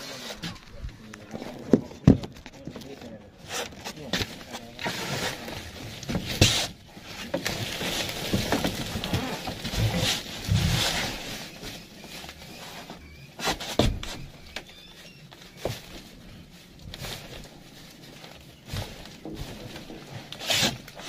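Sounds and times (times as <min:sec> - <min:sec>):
handling rustling and scraping: 0:00.0 - 0:21.0.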